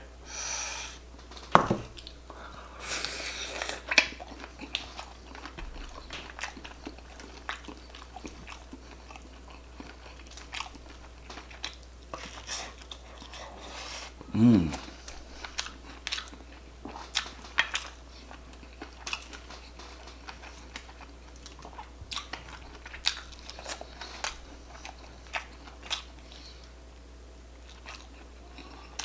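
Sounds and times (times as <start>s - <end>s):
person chewing and biting: 2.9s - 26.8s, 27.6s - 29.0s.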